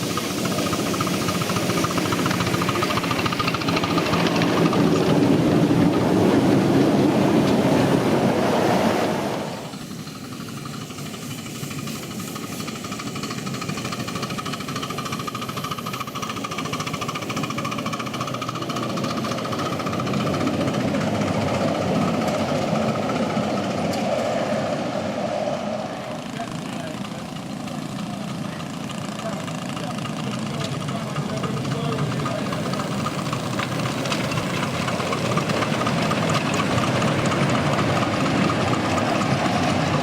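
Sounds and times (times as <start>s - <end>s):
miniature railway train running: 0.0s - 40.0s.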